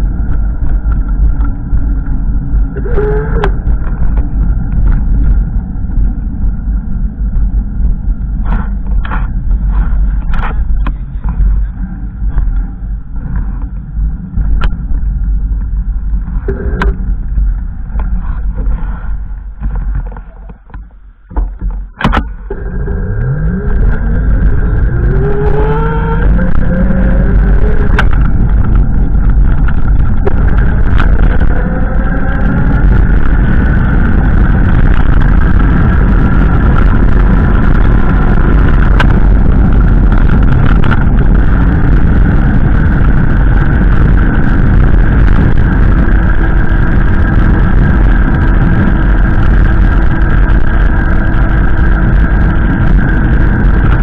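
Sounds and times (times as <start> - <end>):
low rumbling noise: 0.0 - 54.0
vehicle engine accelerating: 0.0 - 54.0.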